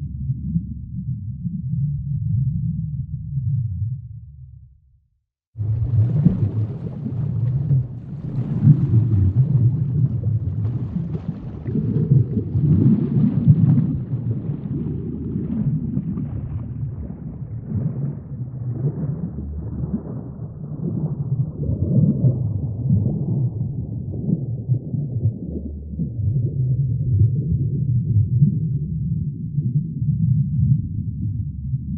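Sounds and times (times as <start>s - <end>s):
low underwater rumble: 0.0s - 31.9s
bubbling gurgles: 5.6s - 31.5s.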